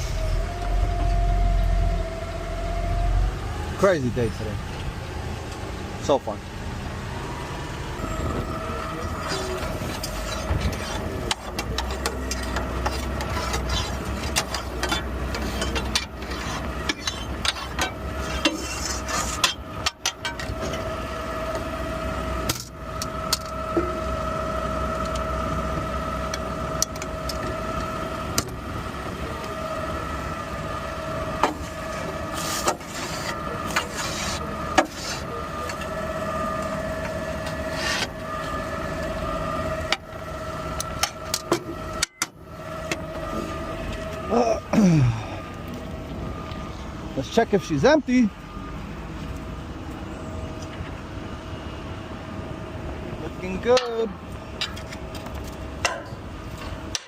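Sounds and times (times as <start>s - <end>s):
garbage truck whine: 0.0s - 57.0s.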